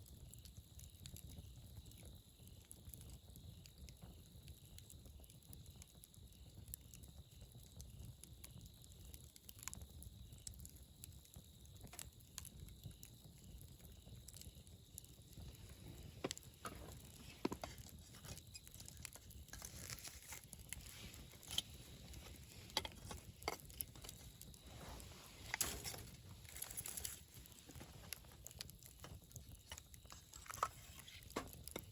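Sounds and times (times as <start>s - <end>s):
campfire crackling: 0.0s - 31.9s.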